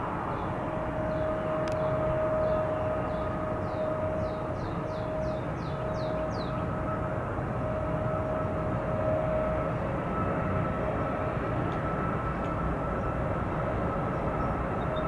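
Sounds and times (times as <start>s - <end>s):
jet aircraft engine whine: 0.0s - 15.0s.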